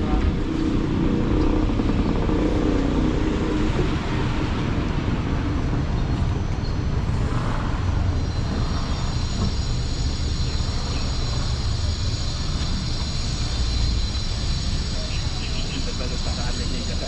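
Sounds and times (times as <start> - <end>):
car engine humming: 0.0 - 17.0
steady road noise: 0.0 - 17.0.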